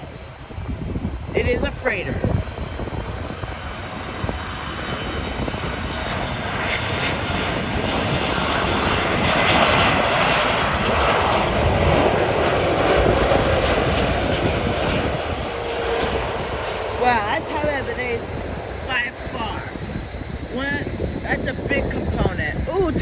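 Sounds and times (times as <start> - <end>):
jet engines passing close: 0.0 - 23.0.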